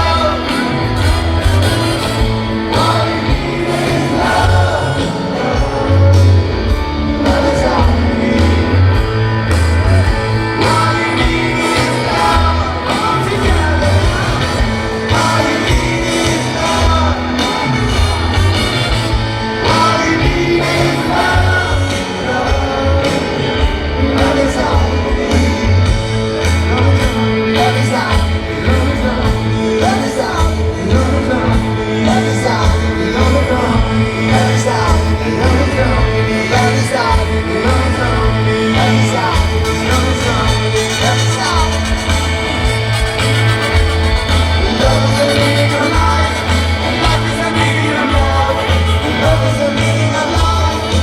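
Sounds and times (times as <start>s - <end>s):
live rock band playing: 0.0s - 51.0s
person singing: 0.0s - 51.0s.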